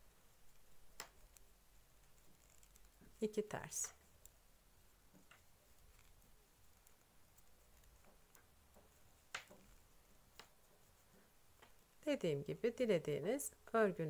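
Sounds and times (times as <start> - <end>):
knitting needles clicking: 0.1 - 12.8.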